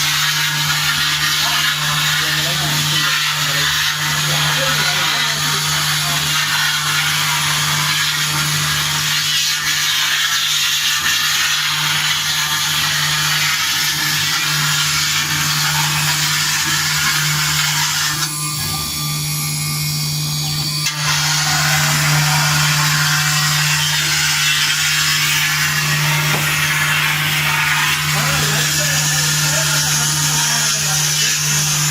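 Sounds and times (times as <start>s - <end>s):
engraving machine hum: 0.0s - 31.9s.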